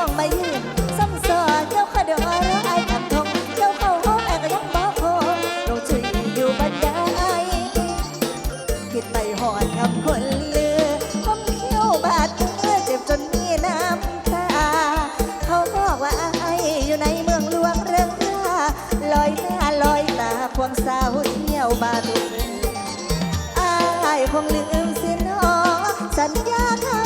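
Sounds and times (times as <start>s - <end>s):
fast drum beat: 0.0s - 27.0s
wavering lead melody: 0.0s - 27.0s.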